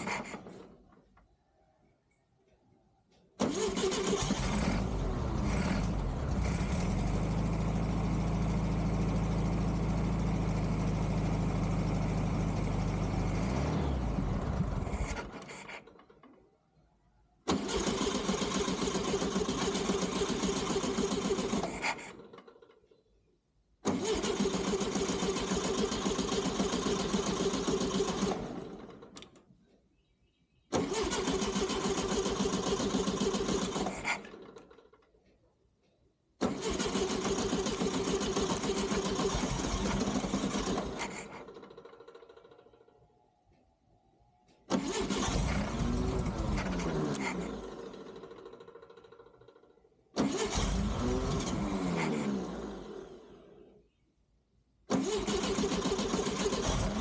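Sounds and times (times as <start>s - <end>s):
car engine starting and dying: 0.0s - 1.0s, 3.4s - 16.6s, 17.4s - 23.1s, 23.8s - 29.5s, 30.7s - 35.2s, 36.3s - 43.6s, 44.5s - 53.8s, 54.8s - 57.0s.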